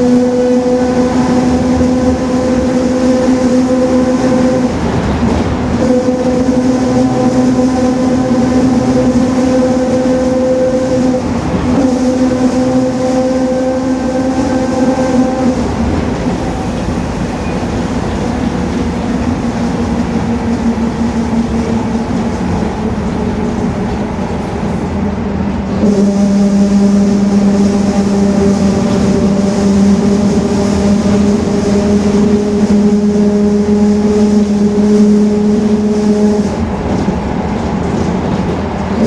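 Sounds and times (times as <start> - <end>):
bus gear whine: 0.0 - 39.0
road and engine rumble: 0.0 - 39.0.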